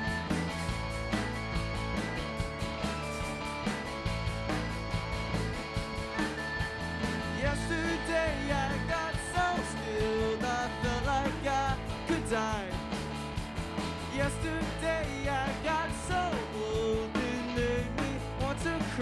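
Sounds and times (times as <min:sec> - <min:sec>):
drum kit beat: 0:00.0 - 0:19.0
electric bass: 0:00.0 - 0:19.0
electric guitar: 0:00.0 - 0:19.0
keyboard: 0:00.0 - 0:19.0.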